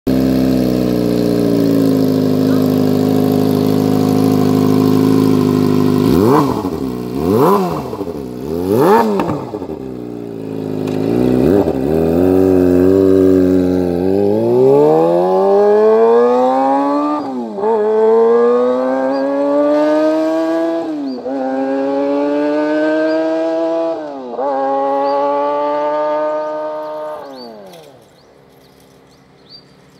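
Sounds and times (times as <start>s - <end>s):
motorcycle engine revving: 0.1s - 29.9s.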